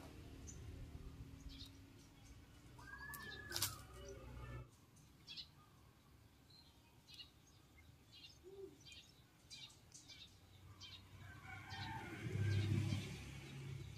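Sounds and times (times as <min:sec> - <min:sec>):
faint outdoor background noise: 0:00.0 - 0:13.9
small birds chirping: 0:00.1 - 0:13.9.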